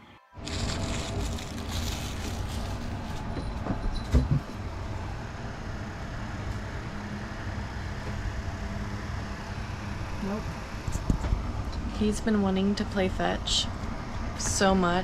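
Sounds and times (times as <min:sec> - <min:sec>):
steady low rumble: 0:00.4 - 0:15.0.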